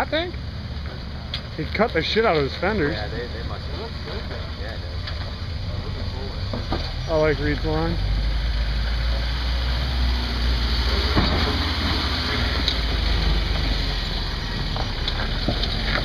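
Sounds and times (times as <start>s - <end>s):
truck engine running low: 0.0s - 16.0s.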